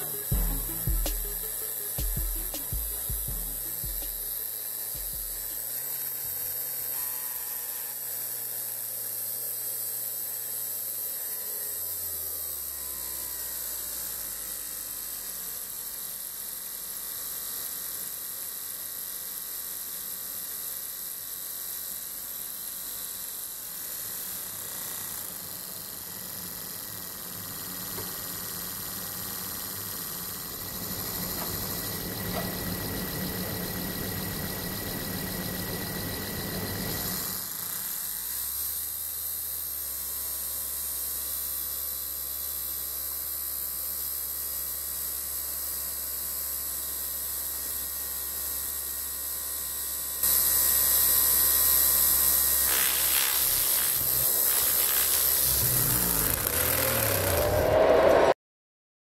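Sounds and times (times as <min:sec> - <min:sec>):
small electric motor humming: 0:00.0 - 0:58.2.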